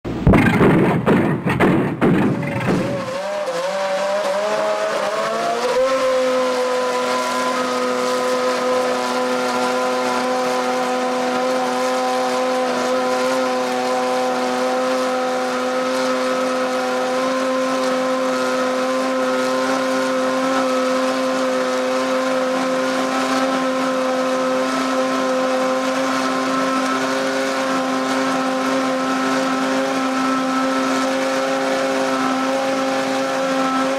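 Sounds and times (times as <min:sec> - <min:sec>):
racing engine running: 0:00.0 - 0:33.9.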